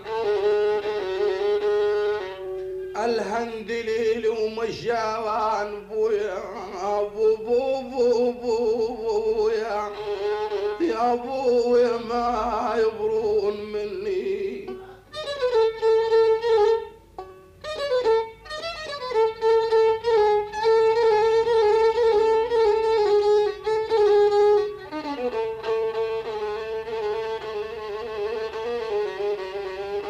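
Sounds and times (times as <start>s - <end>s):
violin solo melody: 0.0s - 4.1s, 7.4s - 30.0s.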